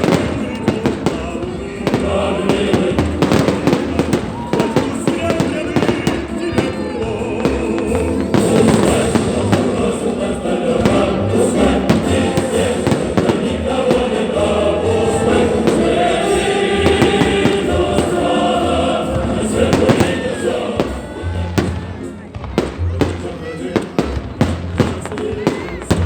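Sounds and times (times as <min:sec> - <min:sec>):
choir singing: 0:00.0 - 0:22.2, 0:22.9 - 0:26.0
firework bangs and crackles: 0:00.0 - 0:26.0.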